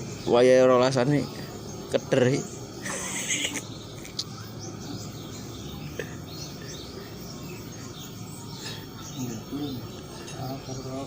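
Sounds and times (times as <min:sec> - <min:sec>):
small birds chirping: 0:00.0 - 0:11.0
steady background hum and hiss: 0:00.0 - 0:11.0.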